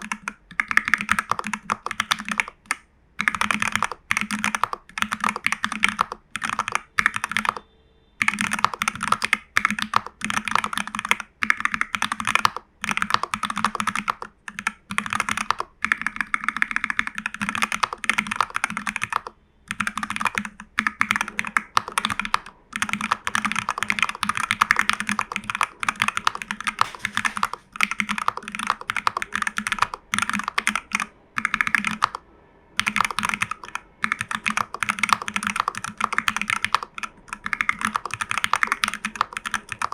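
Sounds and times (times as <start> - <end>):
fast typing on mechanical keyboard: 0.0 - 7.6, 8.2 - 32.2, 32.8 - 39.9.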